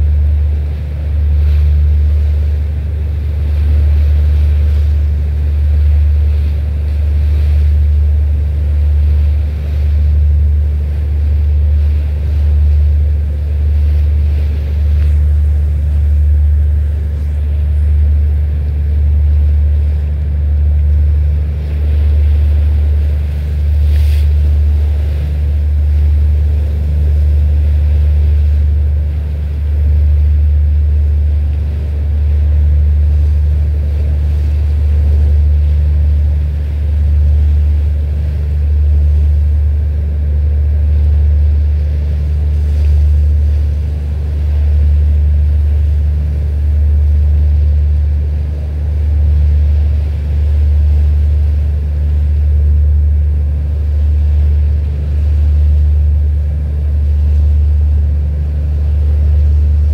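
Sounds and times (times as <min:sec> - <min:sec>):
boat engine rumbling: 0:00.0 - 0:59.9.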